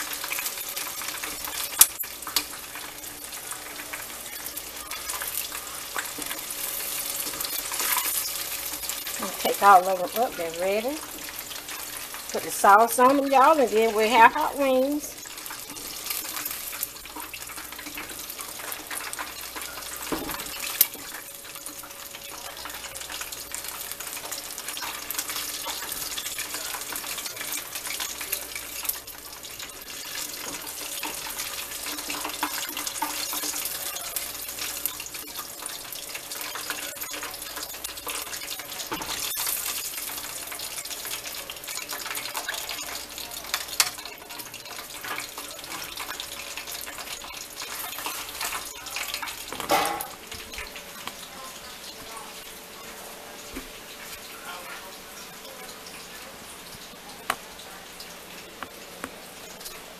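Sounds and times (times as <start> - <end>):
oil frying hiss: 0.0 - 59.9.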